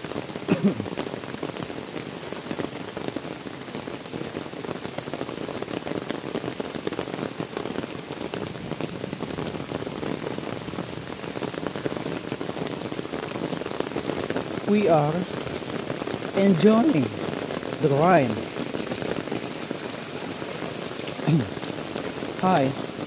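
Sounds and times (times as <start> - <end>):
heavy rain on mud and leaves: 0.0 - 23.0.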